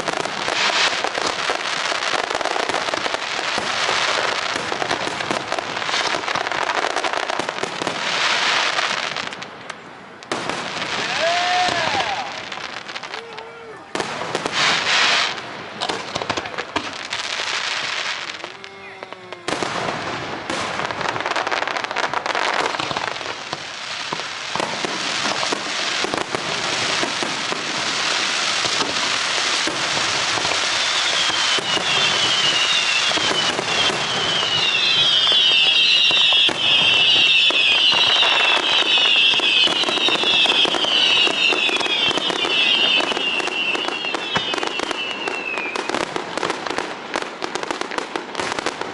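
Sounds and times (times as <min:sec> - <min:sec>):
fireworks crackling and popping: 0:00.0 - 0:48.9
fireworks falling whistles: 0:00.0 - 0:48.9.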